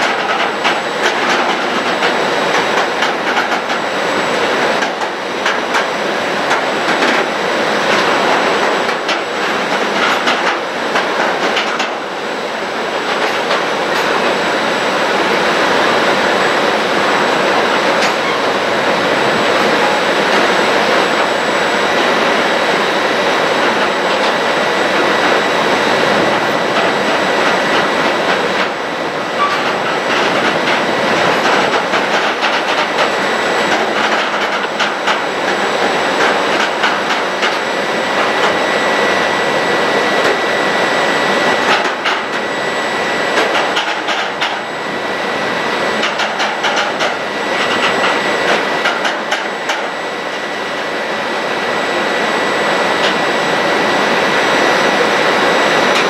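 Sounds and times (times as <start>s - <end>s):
high whine: 0.0s - 56.0s
train wheels rushing on track: 0.0s - 56.0s.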